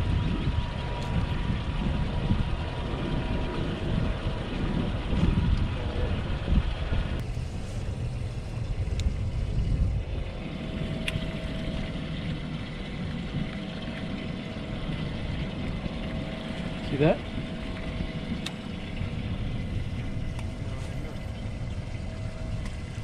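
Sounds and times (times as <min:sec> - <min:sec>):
boat engine rumble: 0:00.0 - 0:23.0
faint steady hum: 0:00.0 - 0:23.0.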